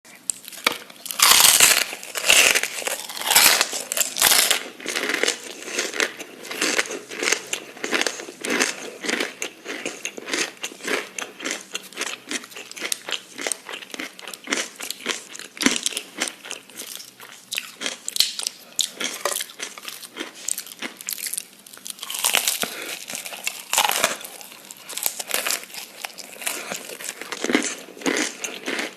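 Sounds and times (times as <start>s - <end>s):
crunchy eating and chewing: 0.1s - 28.9s.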